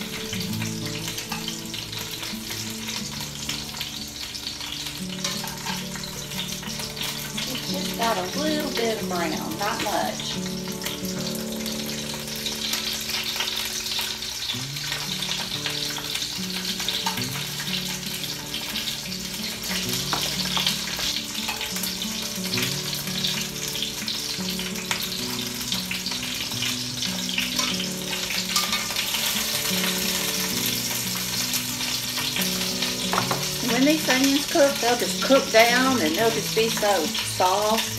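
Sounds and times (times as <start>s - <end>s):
onions sizzling in oil: 0.0s - 37.9s
soft background music: 0.0s - 37.9s.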